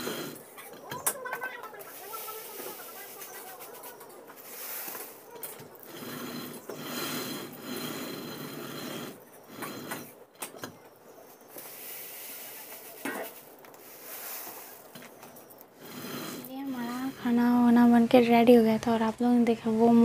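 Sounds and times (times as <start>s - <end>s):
stone mill grinding: 0.0s - 11.7s, 12.4s - 18.3s.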